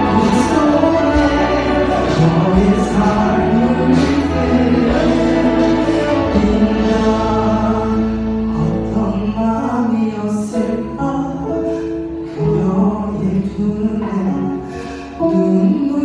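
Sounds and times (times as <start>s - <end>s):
instrumental accompaniment: 0.0s - 16.0s
man singing a slow ballad: 0.0s - 16.0s.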